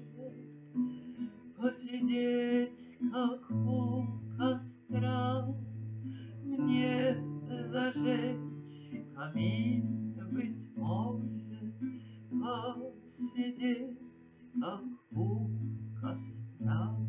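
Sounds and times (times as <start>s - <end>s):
person singing with vibrato: 0.0s - 17.0s
plucked guitar: 0.0s - 17.0s.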